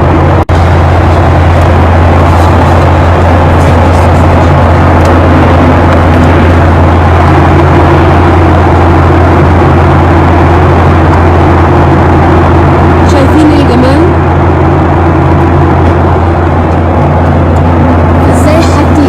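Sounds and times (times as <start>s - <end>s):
aircraft cabin engine drone: 0.0s - 19.0s.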